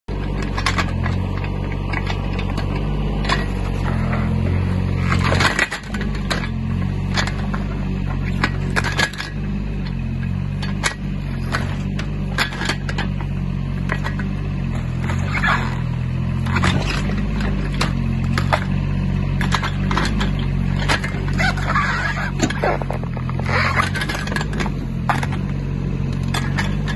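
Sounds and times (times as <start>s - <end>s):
excavator diesel engine running: 0.1s - 26.9s.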